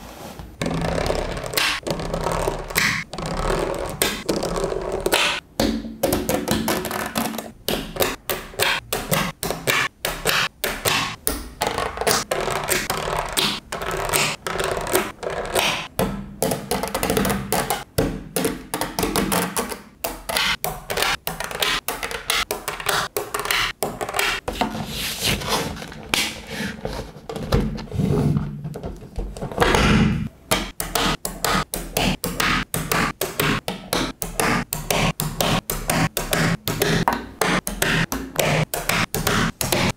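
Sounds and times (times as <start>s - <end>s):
magnetic balls clicking together: 1.3s - 24.5s, 30.5s - 39.9s.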